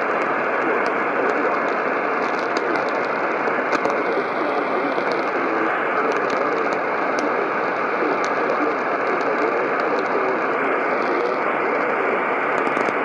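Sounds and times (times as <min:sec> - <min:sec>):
faint crackles: 0:00.0 - 0:13.0
radio static hiss: 0:00.0 - 0:13.0.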